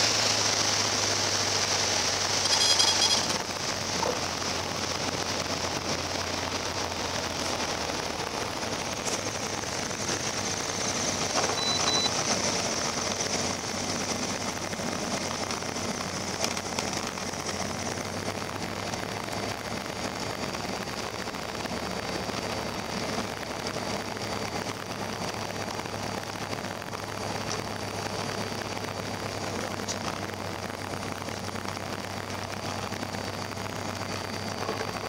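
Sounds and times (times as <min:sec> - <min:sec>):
aircraft engine and propeller hiss: 0:00.0 - 0:35.0.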